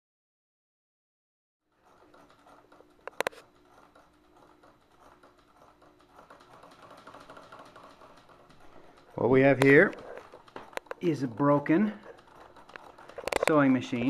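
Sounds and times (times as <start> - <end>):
sharp clicks: 2.2 - 14.0.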